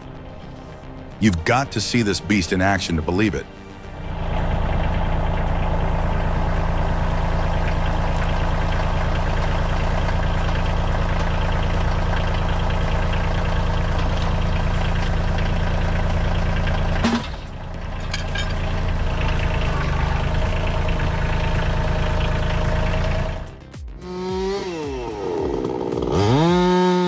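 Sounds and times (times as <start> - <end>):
stump grinder diesel engine: 4.1 - 27.0.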